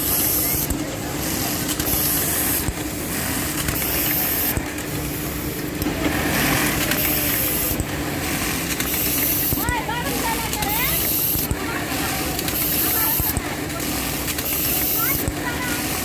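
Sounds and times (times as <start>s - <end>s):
machine humming and hissing: 0.0s - 16.0s.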